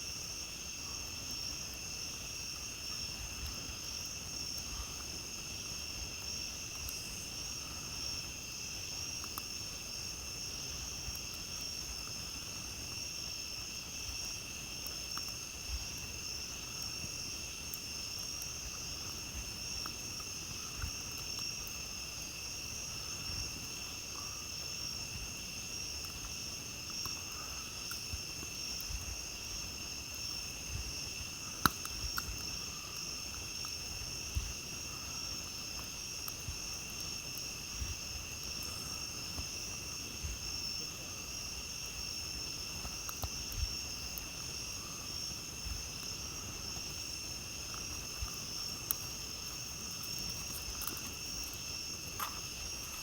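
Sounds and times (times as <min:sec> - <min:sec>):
night insects trilling: 0:00.0 - 0:53.0
campfire crackling and popping: 0:01.7 - 0:53.0.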